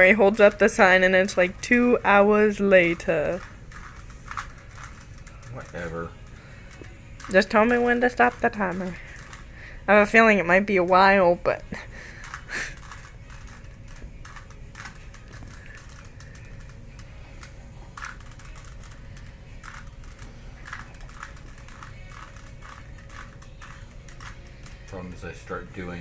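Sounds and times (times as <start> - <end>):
puzzle cube clicking and rattling: 0.4 - 9.5, 12.0 - 24.9.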